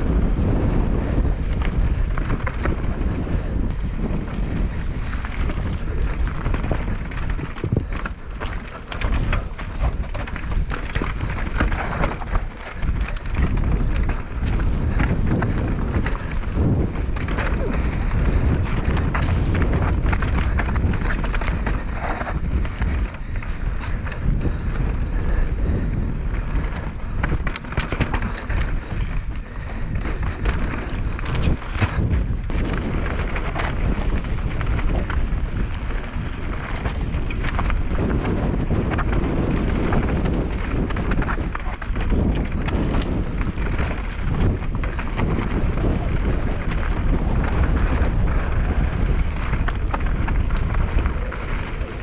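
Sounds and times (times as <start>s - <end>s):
bike clacking and rattling: 0.0s - 52.0s
wind buffeting microphone: 0.0s - 52.0s.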